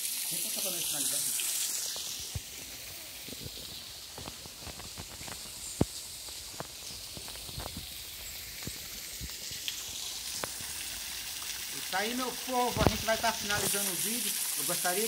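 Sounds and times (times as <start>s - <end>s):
small waterfall hissing: 0.0s - 15.0s.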